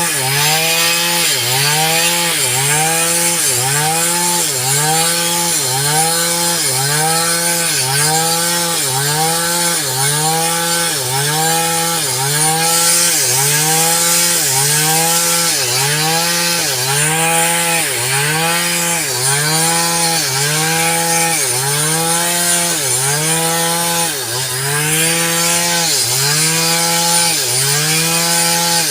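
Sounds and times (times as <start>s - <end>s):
rhythmic pitched sawing: 0.0s - 28.9s.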